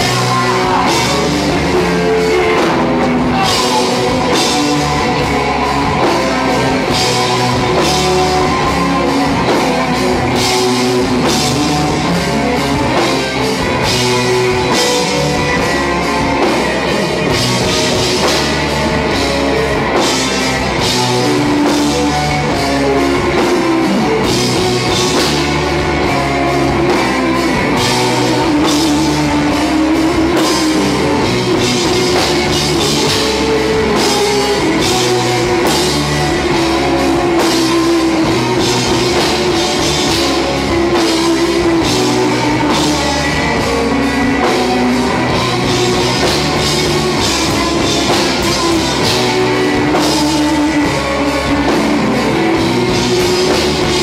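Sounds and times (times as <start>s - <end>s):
drum kit with cymbals: 0.0s - 54.0s
electric guitar: 0.0s - 54.0s.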